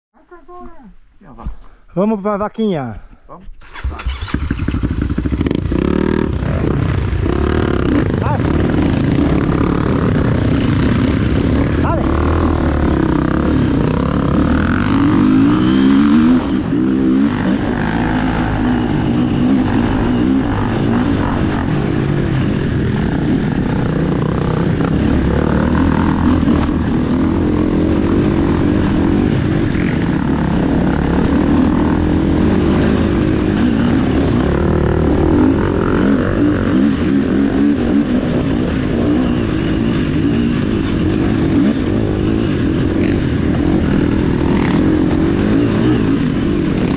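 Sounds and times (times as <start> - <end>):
motorcycle engine revving: 3.6 - 46.9.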